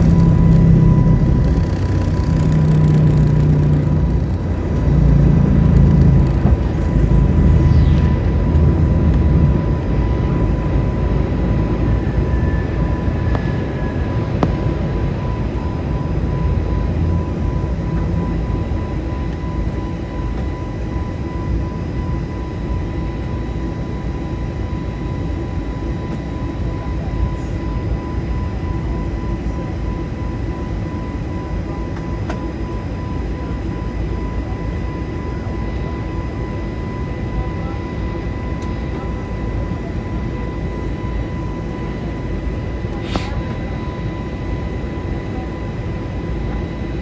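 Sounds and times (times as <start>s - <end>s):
airplane cabin roar: 0.0s - 47.0s.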